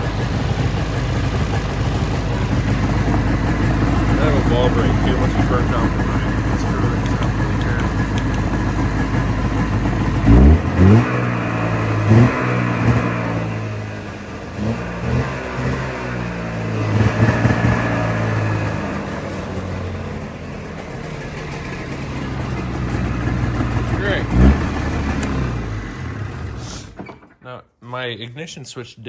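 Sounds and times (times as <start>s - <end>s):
snowmobile engine idling and revving: 0.0s - 27.1s.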